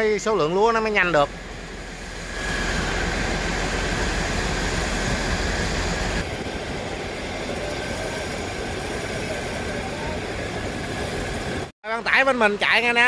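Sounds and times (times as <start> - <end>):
conveyor machinery drone: 0.0 - 13.0.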